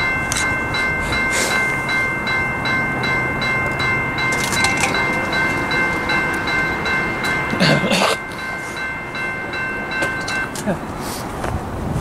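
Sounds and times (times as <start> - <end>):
crossing warning bell ringing: 0.0 - 11.8.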